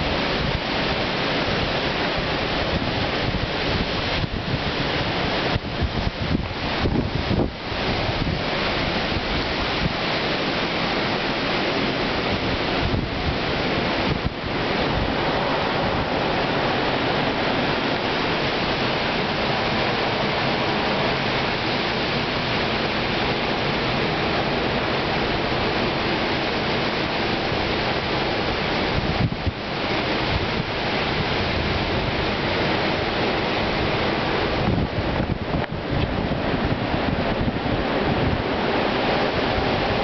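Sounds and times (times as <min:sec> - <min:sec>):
strong wind roaring: 0:00.0 - 0:40.0
wind buffeting the microphone: 0:00.0 - 0:40.0.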